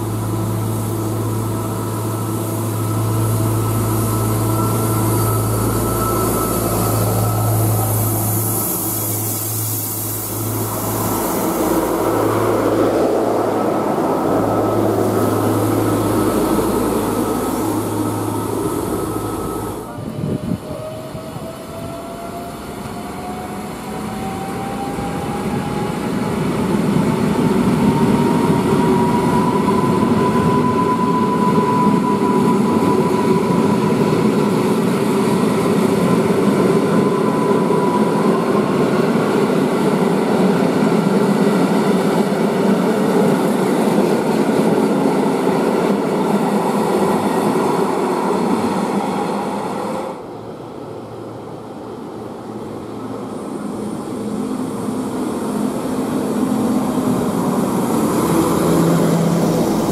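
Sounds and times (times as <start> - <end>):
diesel railbus humming: 0.0 - 59.9
electric train whine: 0.0 - 59.9
train wheels on rails: 0.0 - 59.9.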